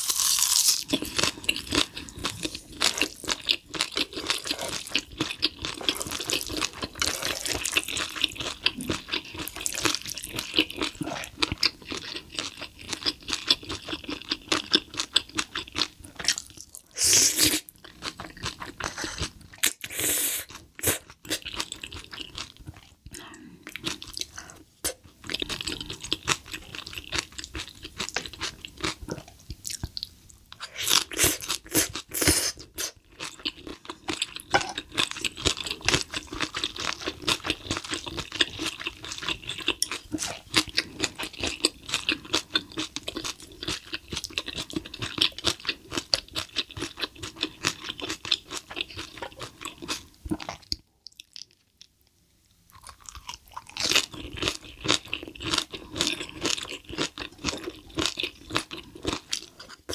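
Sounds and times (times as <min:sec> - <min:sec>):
wet chewing and crunching: 0:00.0 - 0:16.9, 0:20.5 - 0:32.2, 0:32.8 - 0:52.0, 0:52.6 - 0:59.9.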